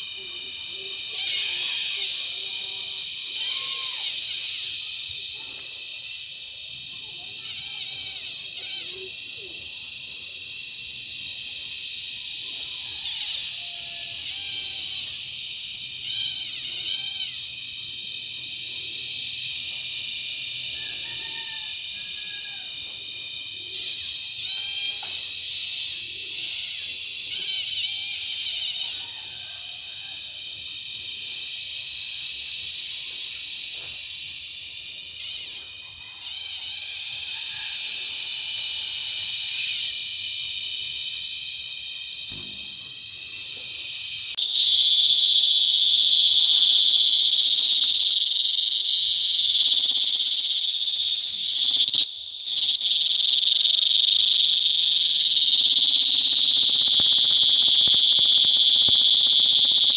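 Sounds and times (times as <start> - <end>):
cicadas buzzing: 0.0 - 59.9.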